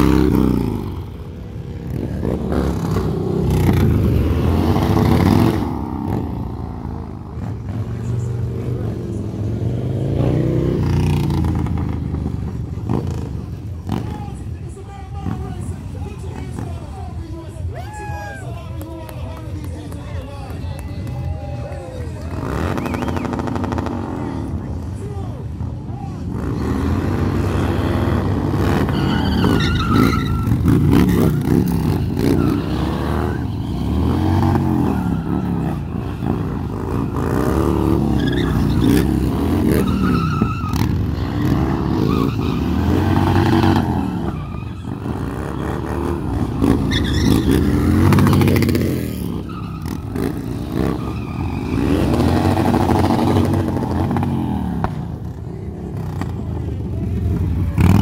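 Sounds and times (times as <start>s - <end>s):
motorcycle engines revving: 0.0s - 58.0s
tyres skidding: 0.0s - 58.0s.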